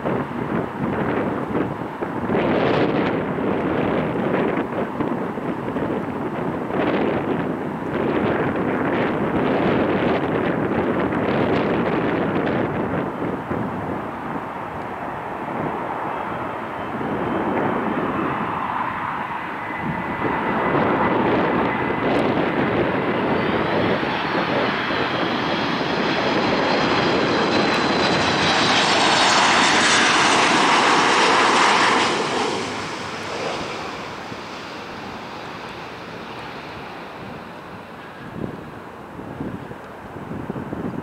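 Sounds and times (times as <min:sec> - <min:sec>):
jet engine rumble and whine: 0:00.0 - 0:41.0.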